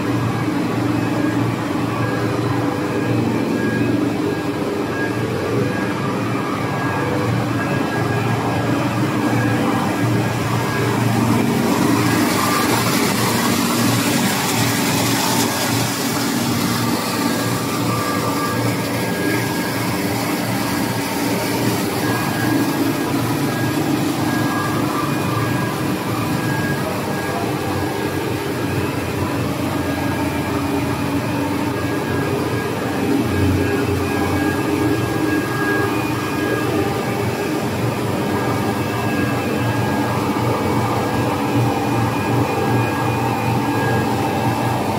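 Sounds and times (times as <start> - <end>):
production line machinery noise: 0.0 - 44.9
thin high whine: 0.0 - 44.9.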